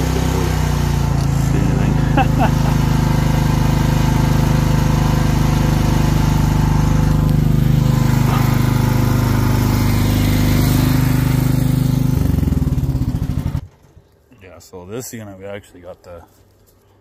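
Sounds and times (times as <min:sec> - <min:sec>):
small petrol engine running: 0:00.0 - 0:13.7.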